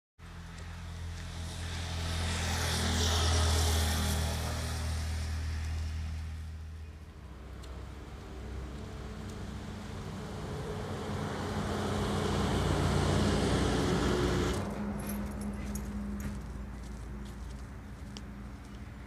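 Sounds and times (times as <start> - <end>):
vehicle passing on road: 0.2 - 19.0.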